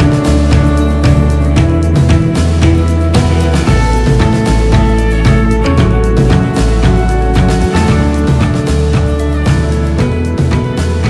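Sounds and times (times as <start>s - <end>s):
drum beat: 0.0s - 11.0s
heavy bass line: 0.0s - 11.0s.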